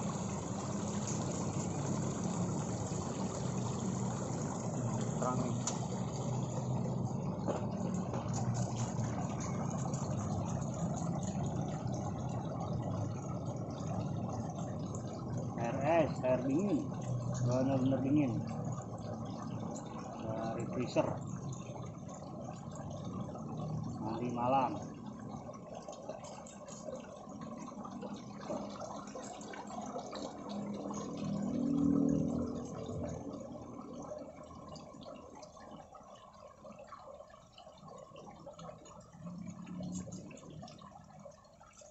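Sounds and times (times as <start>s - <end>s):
fountain water running: 0.0s - 41.9s.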